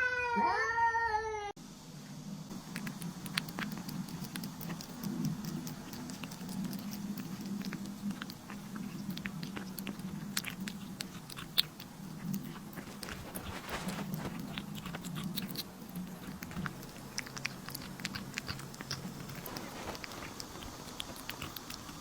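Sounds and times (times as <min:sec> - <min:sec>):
steady low hum: 0:01.5 - 0:22.0
pet chewing and crunching: 0:02.5 - 0:22.0.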